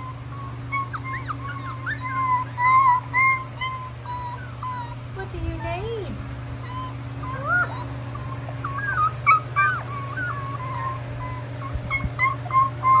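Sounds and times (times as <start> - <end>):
puppies whining and yipping: 0.0 - 13.0
steady low hum: 0.0 - 13.0.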